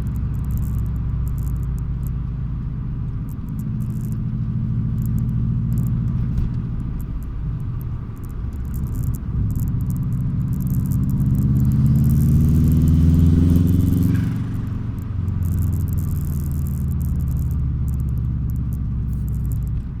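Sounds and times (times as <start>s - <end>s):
car engine revving: 0.0s - 20.0s
turbo flutter: 3.0s - 19.8s.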